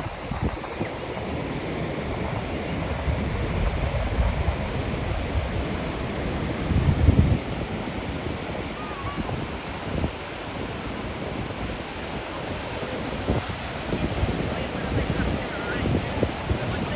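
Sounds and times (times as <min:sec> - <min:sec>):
ocean surf on a beach: 0:00.0 - 0:16.9
wind buffeting the microphone: 0:00.0 - 0:16.9.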